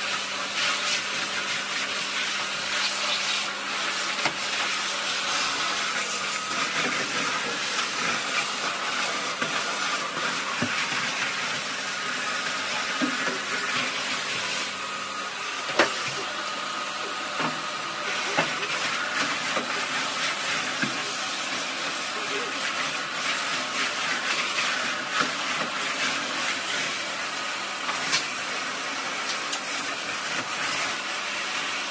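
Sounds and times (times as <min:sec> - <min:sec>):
vacuum cleaner suction: 0:00.0 - 0:31.9.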